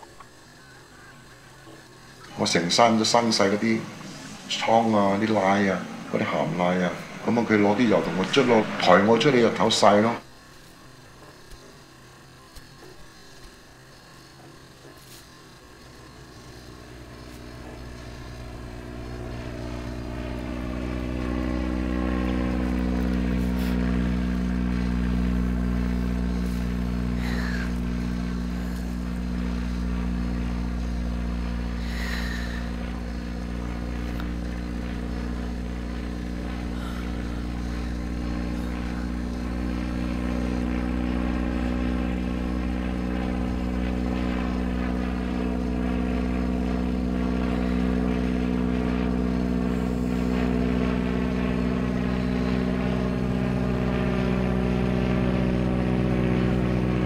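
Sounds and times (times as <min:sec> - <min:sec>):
low engine-like drone: 0:00.0 - 0:57.0.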